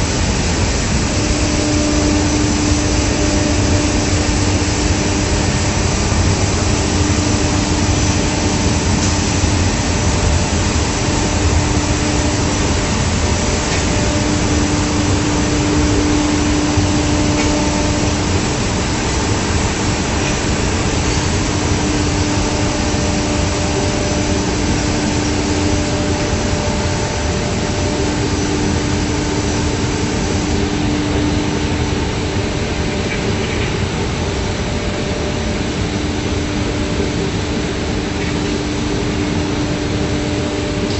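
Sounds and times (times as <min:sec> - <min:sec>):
industrial machinery running: 0:00.0 - 0:40.9.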